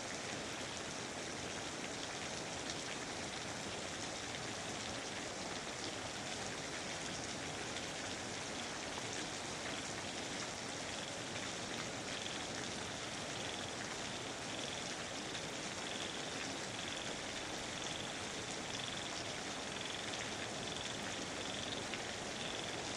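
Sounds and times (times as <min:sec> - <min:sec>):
steady rain patter: 0:00.0 - 0:22.9.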